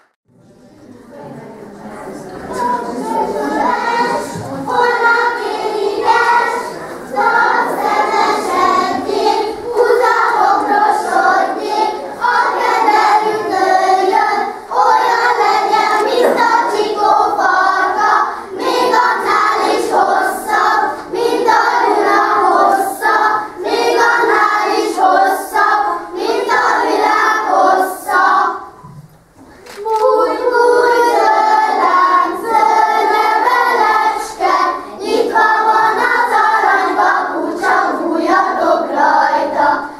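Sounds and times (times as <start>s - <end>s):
children singing: 2.1s - 28.9s, 29.8s - 39.9s.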